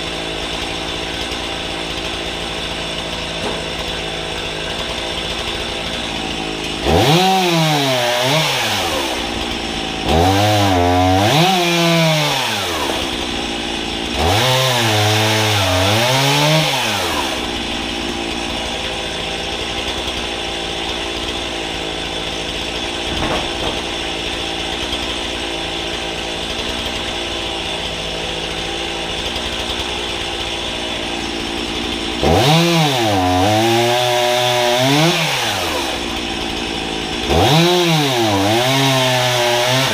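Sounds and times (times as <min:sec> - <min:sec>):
chainsaw idling and cutting wood: 0:00.0 - 0:39.9.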